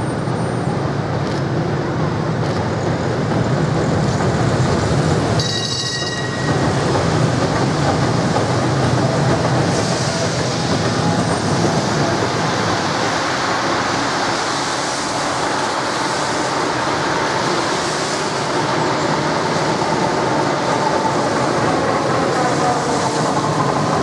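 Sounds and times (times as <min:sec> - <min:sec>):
deep low tram rumble: 0:00.0 - 0:24.0
tram wheels rumbling on rails: 0:00.0 - 0:24.0.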